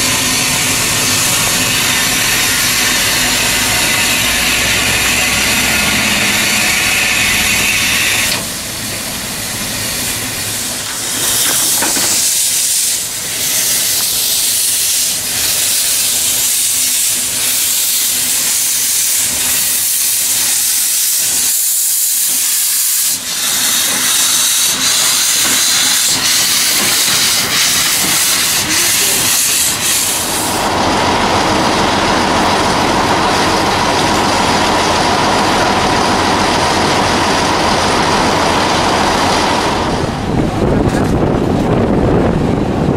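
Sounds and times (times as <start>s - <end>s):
steam hissing from locomotive: 0.0s - 40.1s
steam locomotive rumbling: 0.0s - 42.9s.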